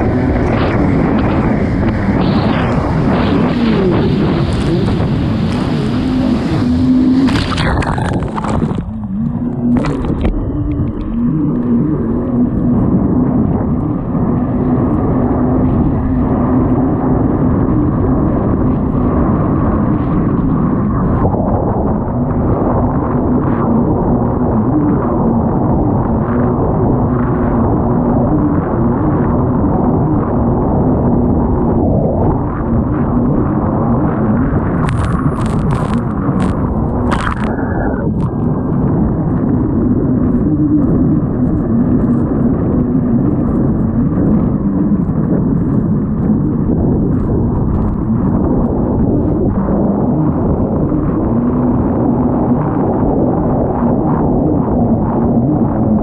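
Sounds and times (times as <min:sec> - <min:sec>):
jet ski engine drone: 0:00.0 - 0:56.0
rushing wind: 0:00.0 - 0:56.0.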